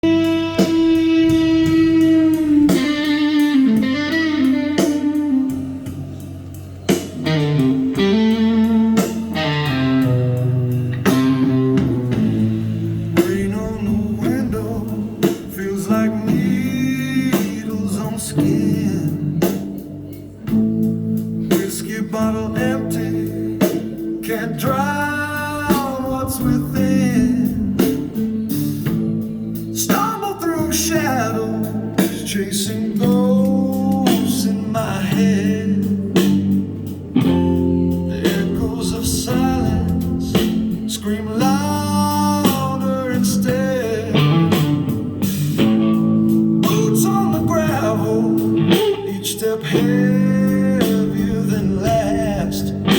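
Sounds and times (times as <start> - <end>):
blues guitar music: 0.0 - 52.9.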